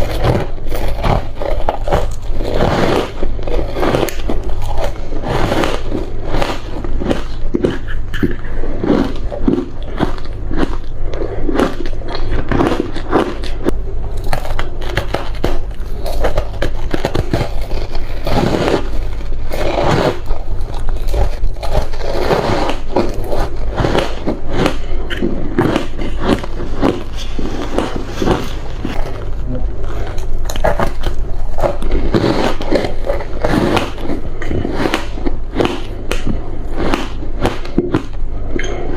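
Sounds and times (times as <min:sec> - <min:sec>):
ice being chewed and crunched: 0:00.0 - 0:38.7
steady low hum: 0:00.0 - 0:38.9.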